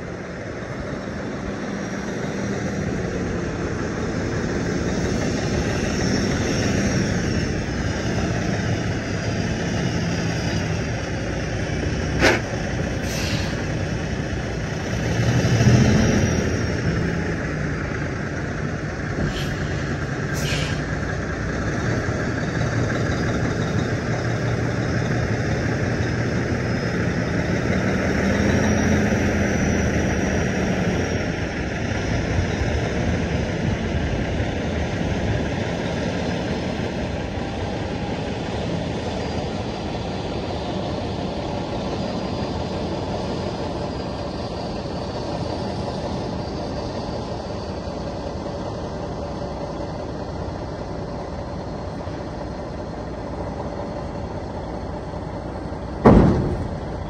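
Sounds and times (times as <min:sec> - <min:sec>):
diesel truck engine rumbling: 0:00.0 - 0:57.0.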